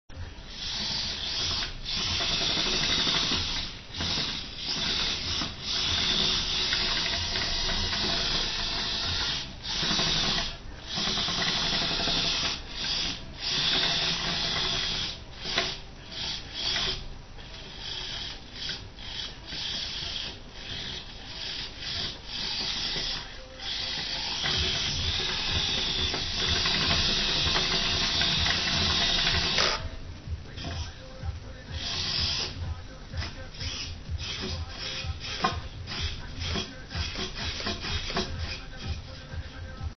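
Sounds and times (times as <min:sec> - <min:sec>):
small electric gear motors whirring: 0:00.1 - 0:39.9.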